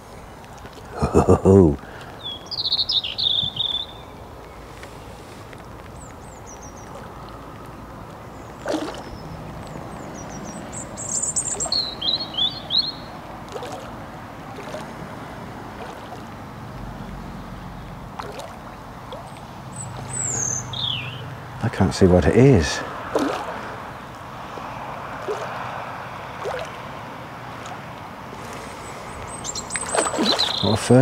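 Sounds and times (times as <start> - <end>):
small birds chirping: 0.0 - 15.0, 15.7 - 25.8, 27.5 - 31.0.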